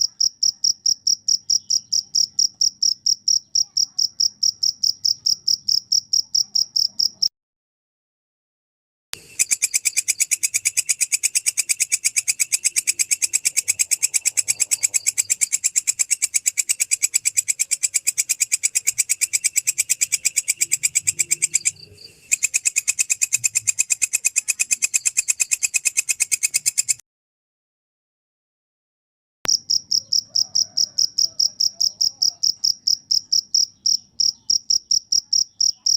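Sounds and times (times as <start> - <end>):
cricket chirping: 0.0 - 7.3, 9.2 - 27.0, 29.5 - 35.9.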